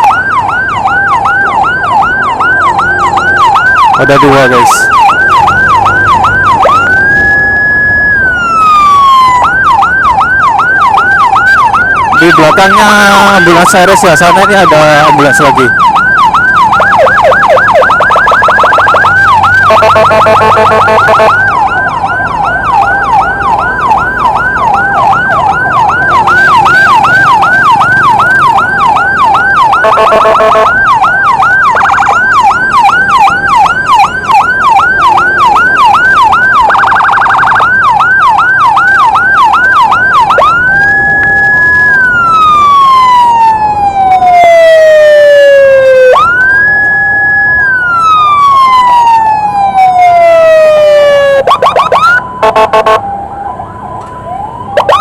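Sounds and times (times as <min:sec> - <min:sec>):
electronic siren yelping: 0:00.0 - 0:55.0
slow siren wail: 0:00.0 - 0:55.0.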